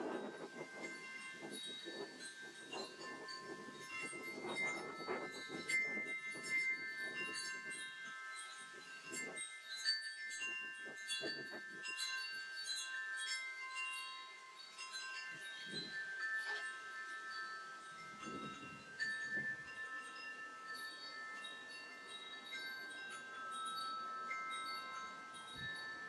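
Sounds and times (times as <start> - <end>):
leaves rustling: 0.0 - 26.0
wind chime ringing: 0.0 - 26.0.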